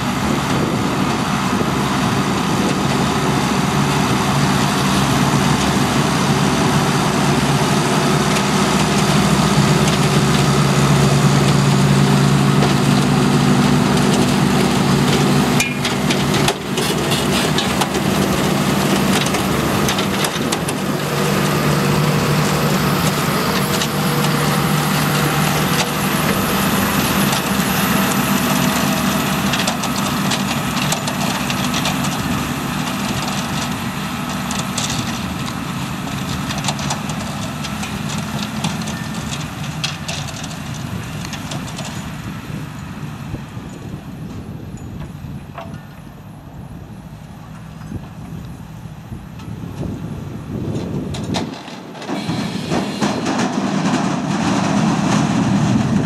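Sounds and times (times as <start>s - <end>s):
harvester machinery clattering: 0.0s - 56.0s
tractor diesel engine under load: 0.0s - 56.0s.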